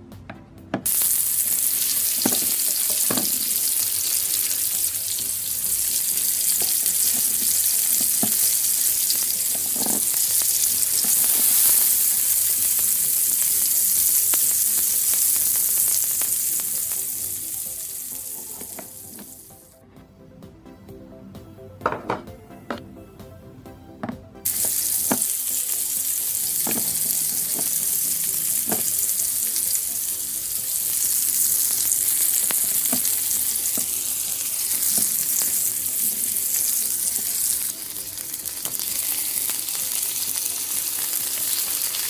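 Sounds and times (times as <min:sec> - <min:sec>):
food sizzling: 0:00.8 - 0:19.7, 0:24.4 - 0:42.0.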